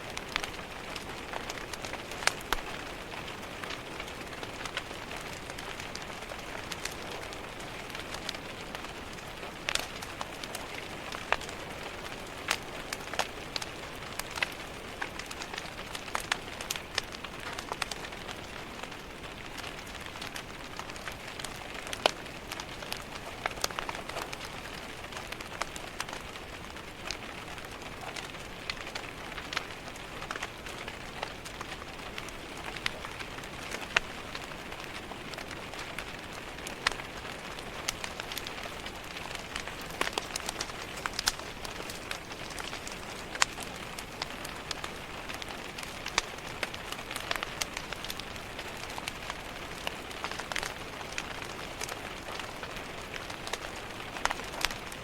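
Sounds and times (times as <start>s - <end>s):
rain pattering on window: 0.0s - 55.0s
wood fire crackling: 0.0s - 55.0s.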